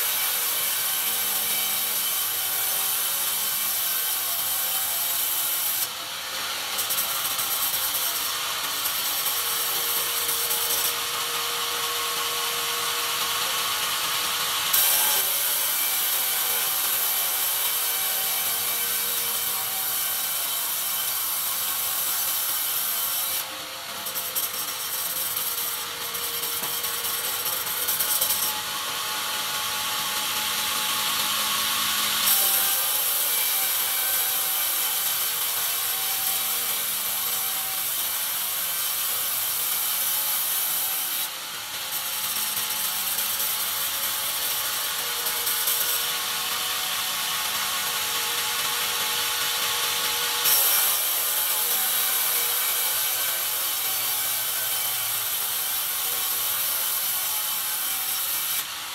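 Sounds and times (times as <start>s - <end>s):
band saw cutting log: 0.0s - 58.9s.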